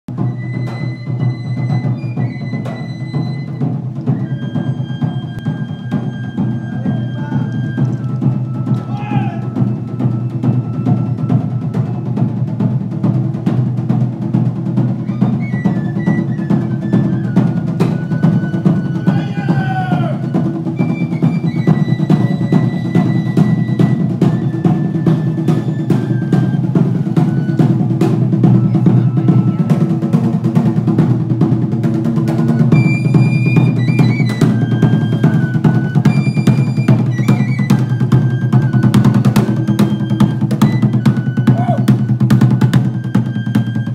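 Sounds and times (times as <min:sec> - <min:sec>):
fast steady drumming: 0:00.1 - 0:43.9.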